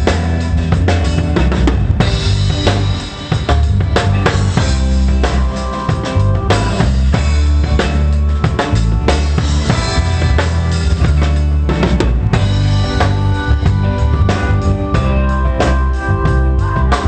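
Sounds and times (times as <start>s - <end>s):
bass notes: 0.0s - 17.0s
held chords: 0.0s - 17.0s
pop band playing: 0.0s - 17.0s.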